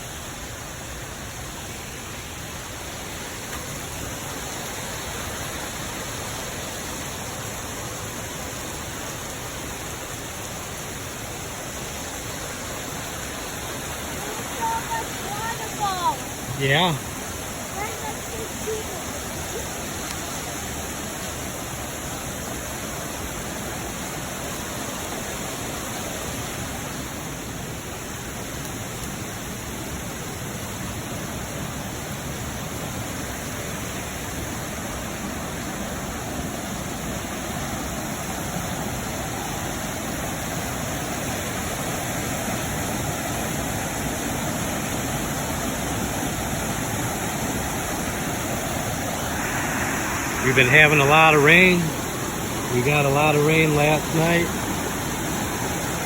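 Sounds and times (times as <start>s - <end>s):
rushing creek and waterfalls: 0.0s - 56.0s.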